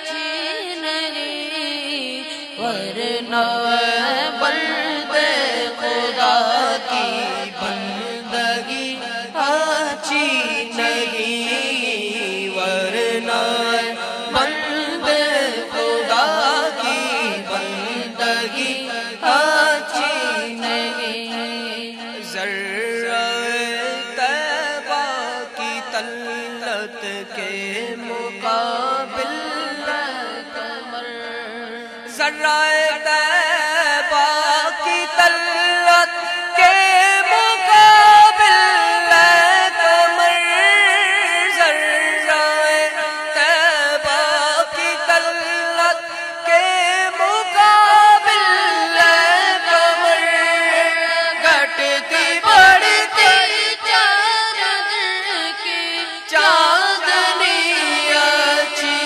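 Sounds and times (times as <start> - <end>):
boys singing through microphones: 0.0 - 59.0.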